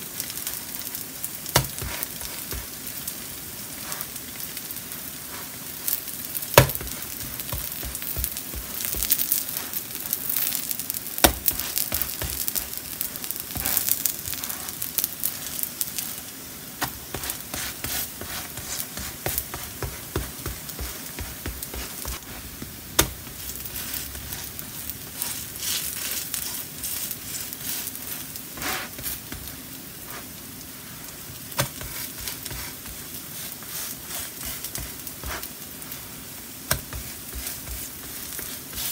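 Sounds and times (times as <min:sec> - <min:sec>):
pancakes sizzling in oil: 0:00.0 - 0:38.9.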